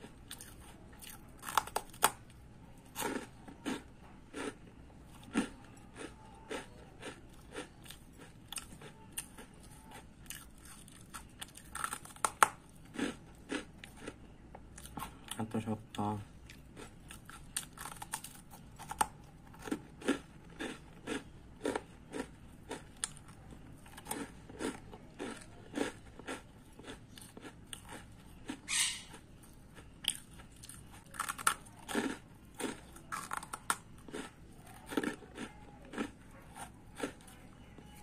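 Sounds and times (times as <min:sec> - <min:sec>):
biscuits crunching while chewed: 0:00.0 - 0:38.0.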